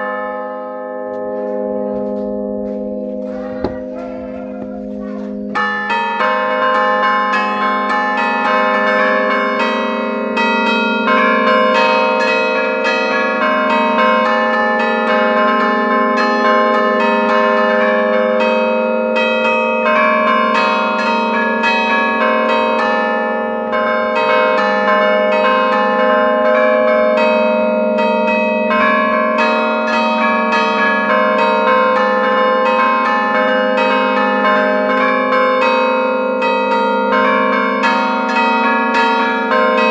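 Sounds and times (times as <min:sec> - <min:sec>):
church bells ringing melody: 0:00.0 - 0:39.9.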